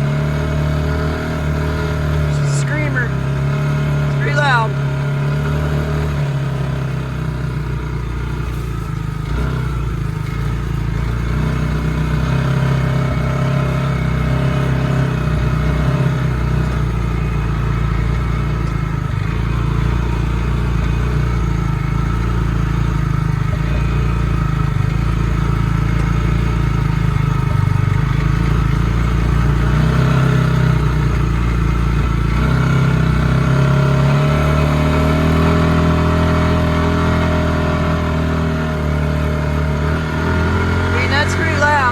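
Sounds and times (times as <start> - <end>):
utility vehicle engine driving: 0.0 - 41.9.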